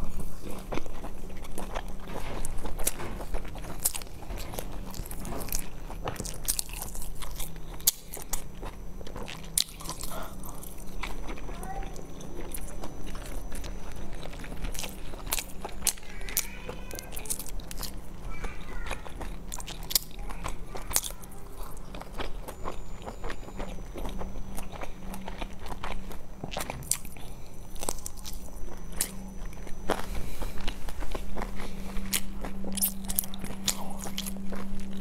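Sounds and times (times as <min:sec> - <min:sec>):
low hum: 0:00.0 - 0:35.0
person chewing food: 0:00.0 - 0:35.0.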